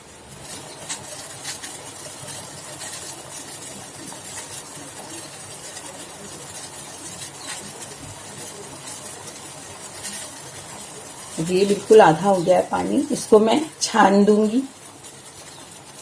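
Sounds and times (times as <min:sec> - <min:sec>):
pan simmering hiss with pops: 0:00.0 - 0:16.0.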